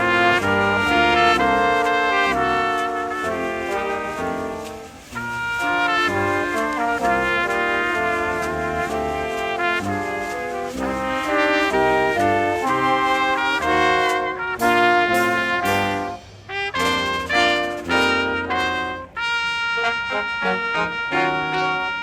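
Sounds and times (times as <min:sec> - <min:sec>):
brass band playing a carol: 0:00.0 - 0:22.0.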